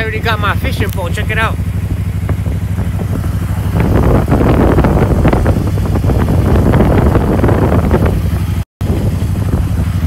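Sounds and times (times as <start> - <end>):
motorcycle engine running: 0.0 - 10.0
wind rumbling on microphone: 0.0 - 10.0.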